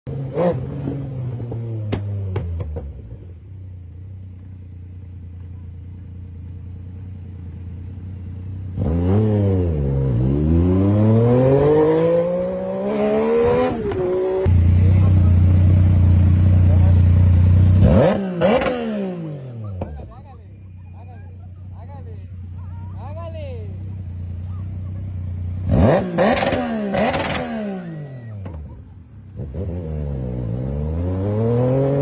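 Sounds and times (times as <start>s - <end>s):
motorcycle engine revving: 0.1s - 4.1s, 5.9s - 32.0s.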